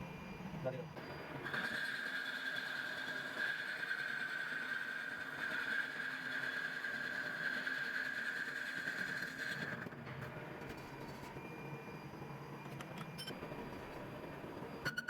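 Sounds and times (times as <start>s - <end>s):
high-pitched lathe whine: 0.0s - 15.0s.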